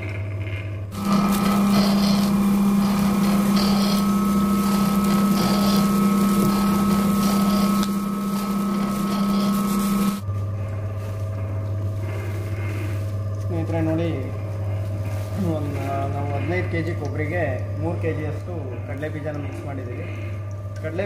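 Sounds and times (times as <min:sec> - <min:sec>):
oil mill machine hum: 0:00.0 - 0:21.0
high steady whine: 0:00.8 - 0:18.4.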